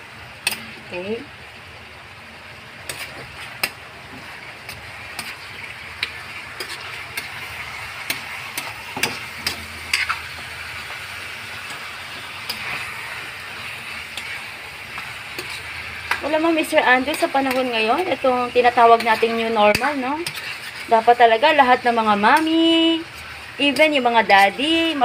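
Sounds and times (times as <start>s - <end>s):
chicken sizzling in a pan: 0.0s - 25.0s
spatula scraping pan: 2.8s - 25.0s.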